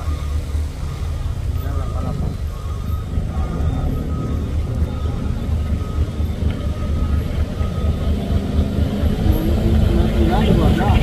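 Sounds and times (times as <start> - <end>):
thin steady whine: 0.0 - 11.0
vehicle engine rumbling: 0.0 - 11.0.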